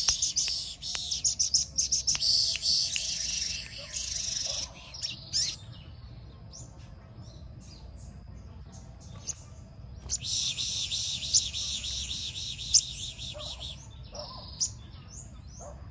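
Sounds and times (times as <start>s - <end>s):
bird chirping and singing: 0.0s - 15.9s.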